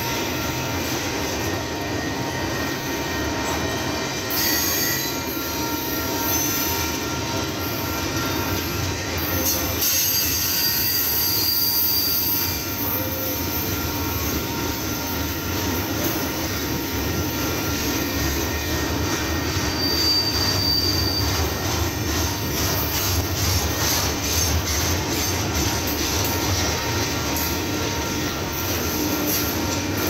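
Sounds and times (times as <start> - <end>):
high wheel squeal: 0.0 - 30.0
train wheels rumbling on rail: 0.0 - 30.0.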